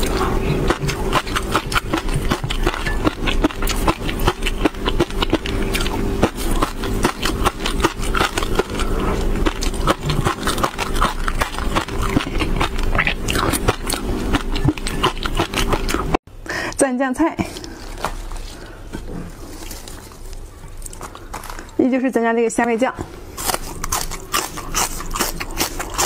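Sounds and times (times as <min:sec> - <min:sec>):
crunchy chewing with wet mouth sounds: 0:00.0 - 0:16.2, 0:17.4 - 0:21.8, 0:23.1 - 0:26.0.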